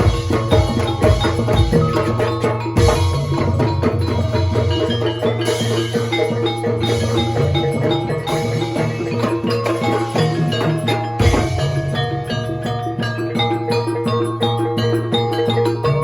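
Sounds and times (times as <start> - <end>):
drums: 0.0 - 14.4
struck metallophone notes: 0.0 - 16.0.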